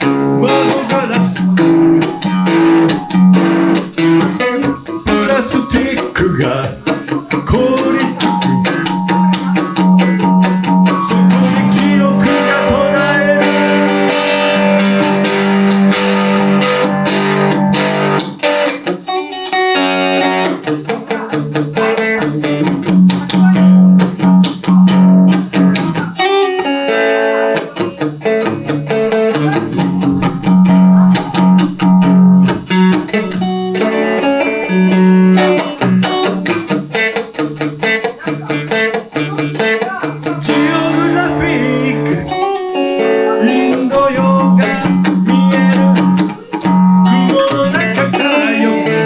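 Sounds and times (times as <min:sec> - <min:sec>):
electric guitar picked notes: 0:00.0 - 0:49.0.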